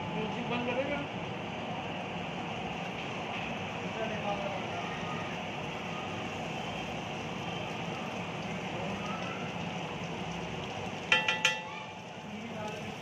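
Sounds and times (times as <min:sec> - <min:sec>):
butter and onions sizzling on griddle: 0:02.2 - 0:13.0.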